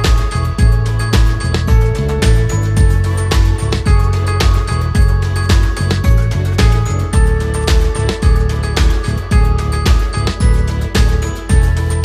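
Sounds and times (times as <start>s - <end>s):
steady beat: 0.0s - 12.0s.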